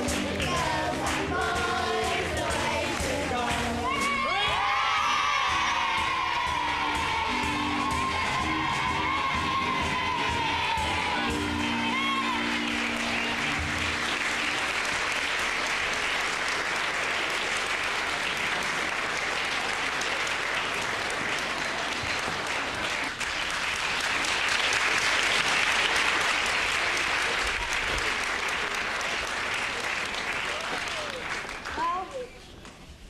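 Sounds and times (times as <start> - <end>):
audience applauding: 0.0 - 32.5.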